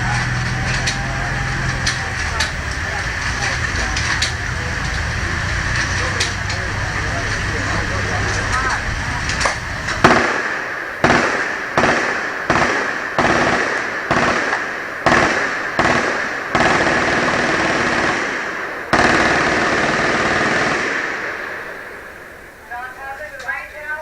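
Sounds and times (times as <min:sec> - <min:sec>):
gunshots echoing: 0:00.0 - 0:22.4.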